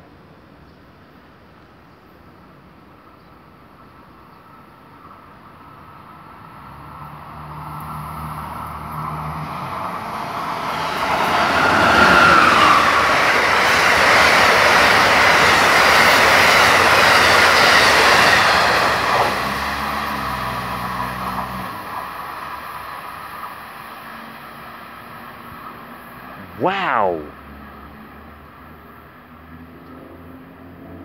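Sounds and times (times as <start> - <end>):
passenger train passing: 2.3 - 30.6.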